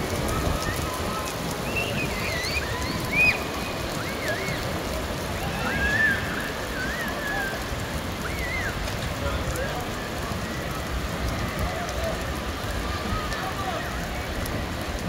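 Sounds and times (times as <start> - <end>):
rain on pavement: 0.0 - 15.0.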